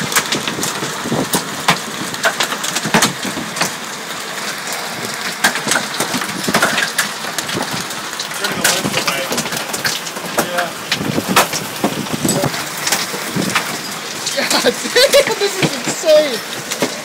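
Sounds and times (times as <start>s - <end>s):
hailstones knocking on shed: 0.0s - 17.0s
rain and wind hiss: 0.0s - 17.0s.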